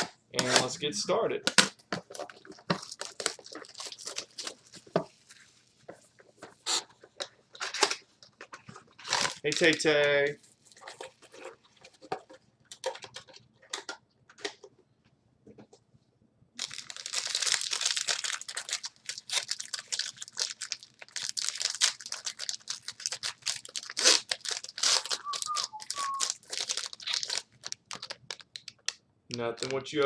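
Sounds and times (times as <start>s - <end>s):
plastic wrapping crinkling: 1.4s - 14.6s, 16.6s - 30.0s.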